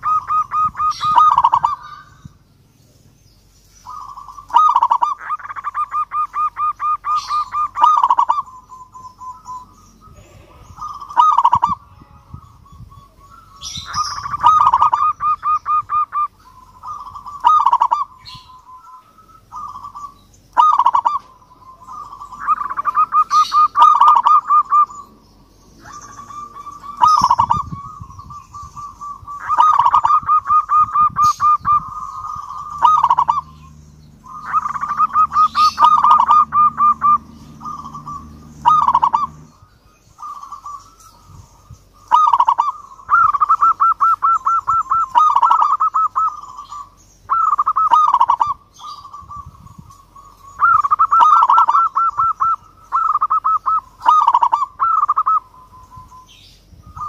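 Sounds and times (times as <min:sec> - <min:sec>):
dove trilled cooing: 0:00.0 - 0:02.6, 0:03.7 - 0:57.0.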